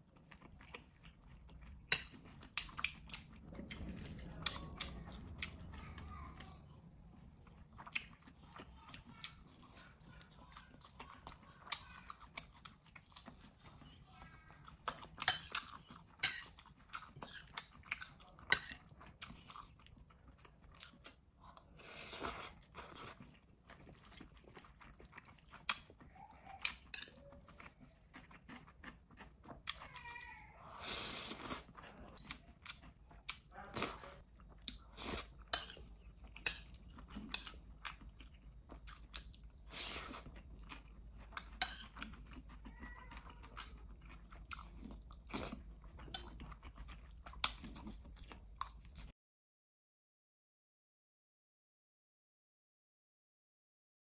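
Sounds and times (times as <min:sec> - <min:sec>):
person chewing noodles: 0:00.0 - 0:05.8, 0:06.4 - 0:49.1.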